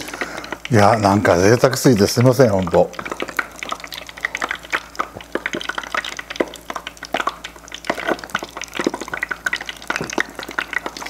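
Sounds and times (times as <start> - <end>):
oil crackling and popping: 0.0 - 11.0.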